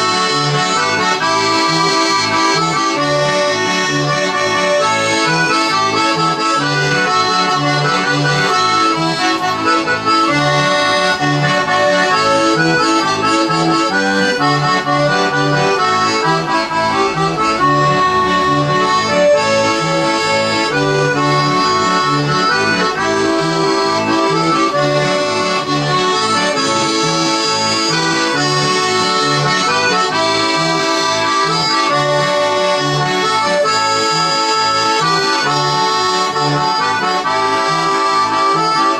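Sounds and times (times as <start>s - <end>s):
accordion music: 0.0s - 38.9s.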